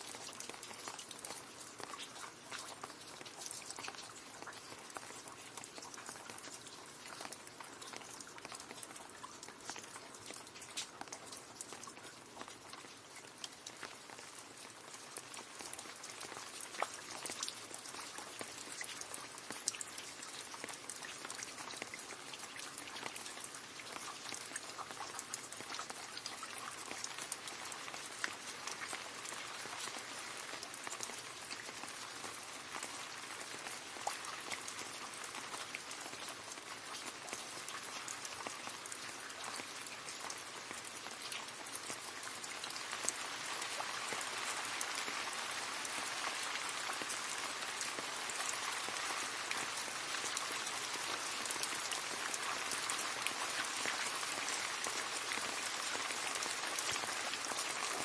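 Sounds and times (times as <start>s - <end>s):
rain patter into puddle: 0.0s - 58.0s
sharp drips: 0.0s - 58.0s.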